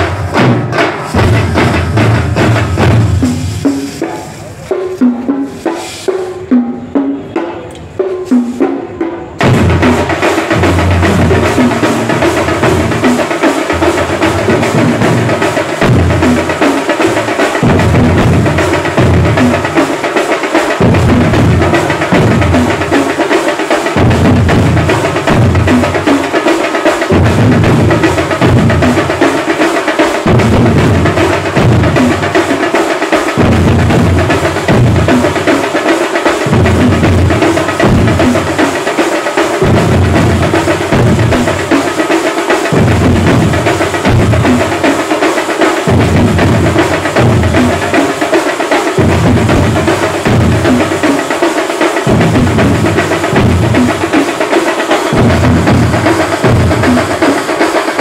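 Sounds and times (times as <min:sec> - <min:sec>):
barrel drums beaten with sticks: 0:00.0 - 0:58.0.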